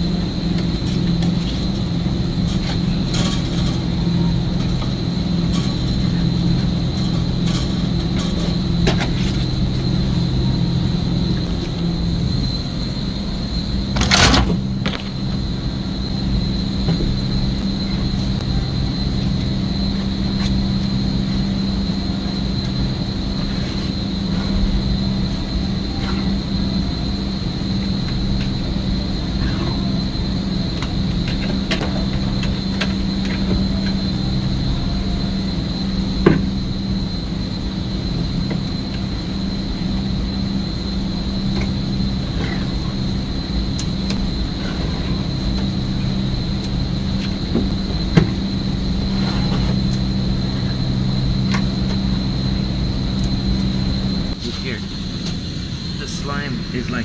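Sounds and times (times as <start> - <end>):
machinery hum with high whine: 0.0 - 57.0.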